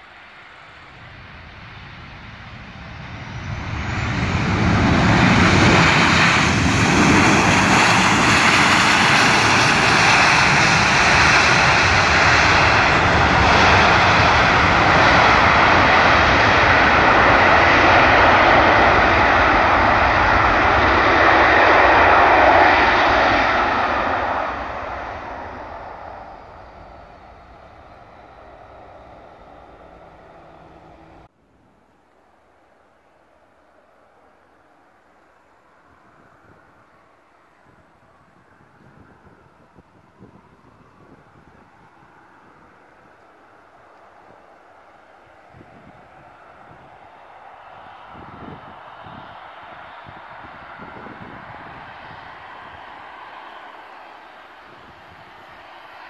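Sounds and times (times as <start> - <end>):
jet engines roaring: 0.0 - 31.3, 35.4 - 56.0.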